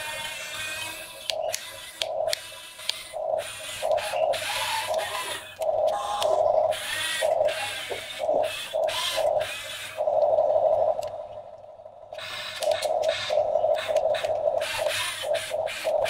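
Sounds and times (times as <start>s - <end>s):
small electric motors whirring: 0.0s - 10.2s, 12.1s - 16.0s.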